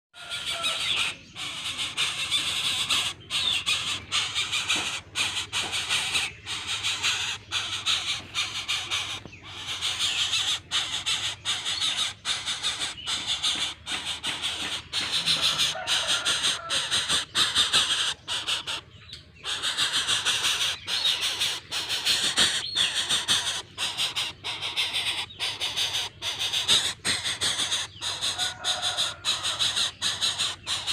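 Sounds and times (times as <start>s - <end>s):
shrill squawking bird calls: 0.2s - 30.9s.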